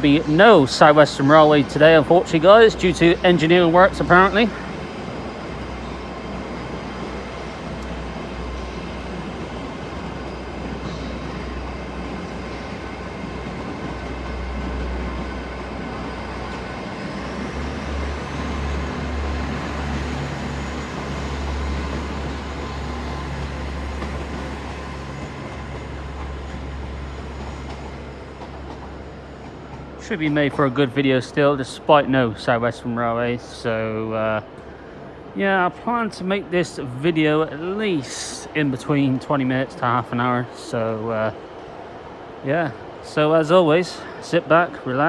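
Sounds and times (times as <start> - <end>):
train diesel engine rumble: 0.0 - 45.0.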